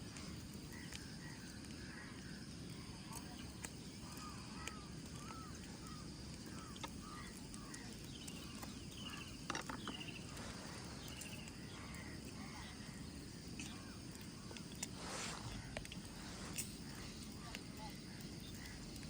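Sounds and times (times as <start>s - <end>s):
low background noise: 0.0s - 19.0s
birds chirping: 0.2s - 19.0s.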